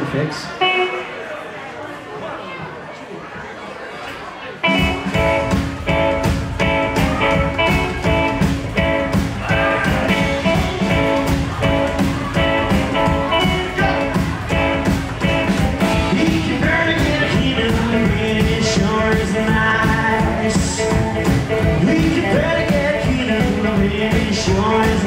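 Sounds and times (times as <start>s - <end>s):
rockabilly band playing: 0.0s - 1.2s, 4.6s - 25.0s.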